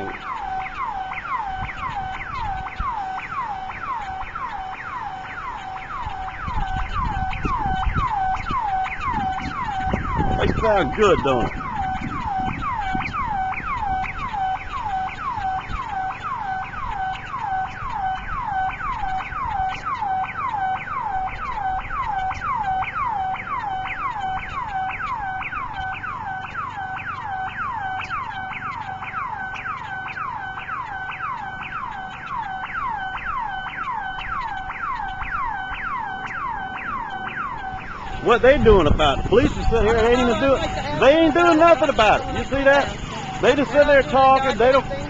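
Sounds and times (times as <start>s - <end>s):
burglar alarm siren: 0.0s - 45.0s.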